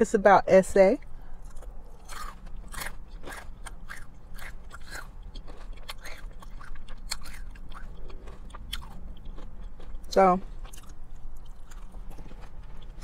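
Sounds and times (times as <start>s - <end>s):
chewing crispy chicken crunches: 1.2s - 13.0s.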